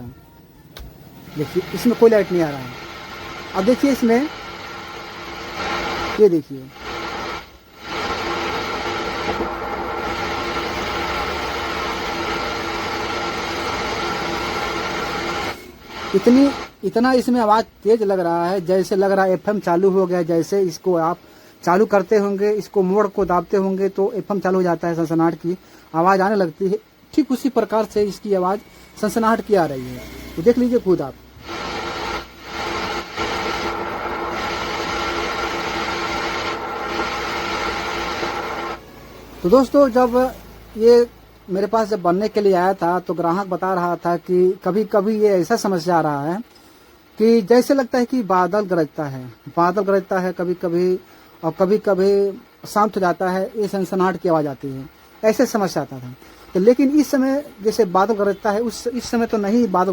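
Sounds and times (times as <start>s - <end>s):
amplifier speaker hiss and static: 0.0s - 59.9s
faint steady tones: 0.0s - 59.9s.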